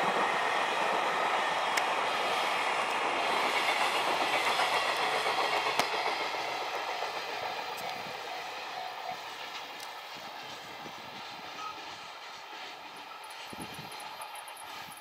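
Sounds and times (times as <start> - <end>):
freight train rolling past: 0.0 - 15.0
wheels clicking over rail joints: 0.0 - 15.0.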